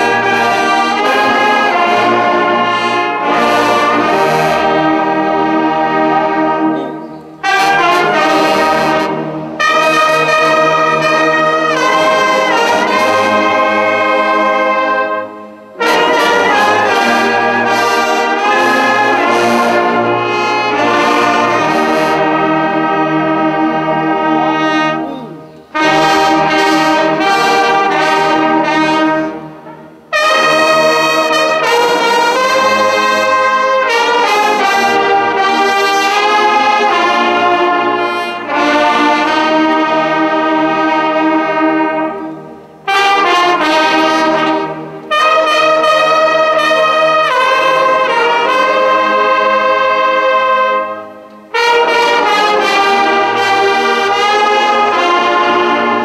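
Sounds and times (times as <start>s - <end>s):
brass band playing chords: 0.0s - 56.0s.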